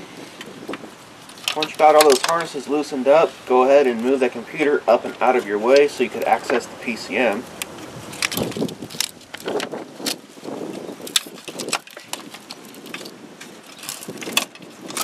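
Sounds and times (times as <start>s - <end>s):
wires rustling: 0.4s - 15.0s.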